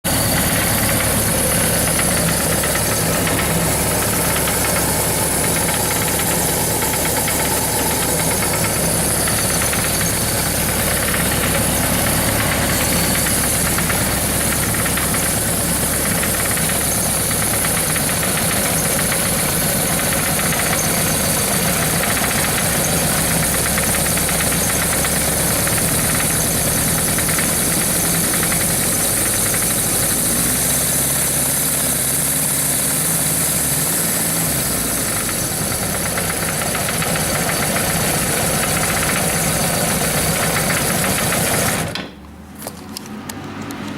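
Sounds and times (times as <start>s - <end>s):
engine knock: 0.0s - 42.1s
motorcycle engine running: 0.0s - 42.1s.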